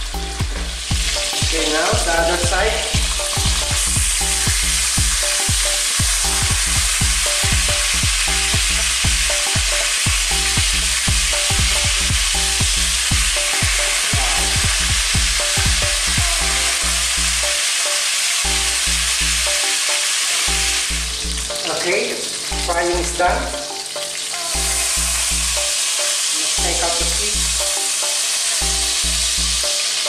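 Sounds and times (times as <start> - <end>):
background music with steady beat: 0.0 - 30.0
fish sizzling in a pan: 0.0 - 30.0.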